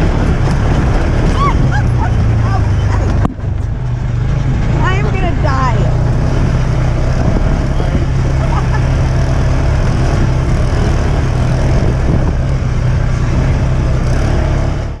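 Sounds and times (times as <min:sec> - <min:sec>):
buggy engine running: 0:00.0 - 0:15.0.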